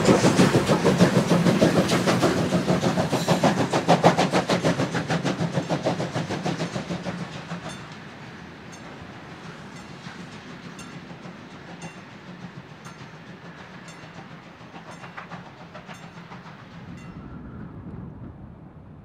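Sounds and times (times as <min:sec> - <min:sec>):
steam locomotive rumbling: 0:00.0 - 0:19.0.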